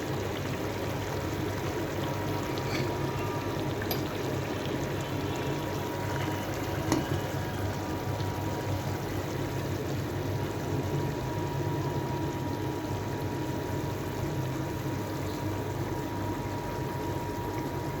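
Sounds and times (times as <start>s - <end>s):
low steady hum: 0.0s - 18.0s
sauce simmering in a pan: 0.0s - 18.0s.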